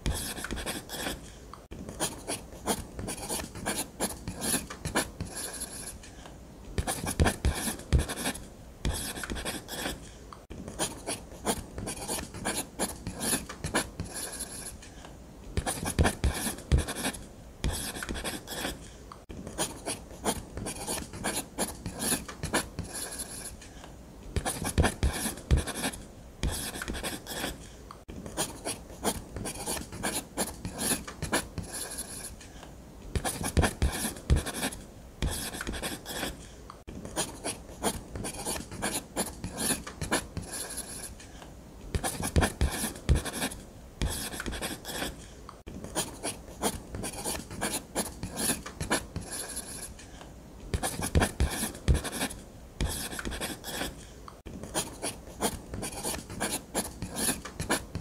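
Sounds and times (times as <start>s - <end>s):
pen scratching on paper: 0.0s - 1.3s, 1.9s - 6.0s, 6.8s - 10.1s, 10.7s - 14.8s, 15.6s - 18.9s, 19.5s - 23.6s, 24.4s - 27.6s, 28.2s - 32.4s, 33.1s - 36.4s, 37.1s - 41.2s, 41.9s - 50.0s, 50.7s - 54.0s, 54.6s - 58.0s.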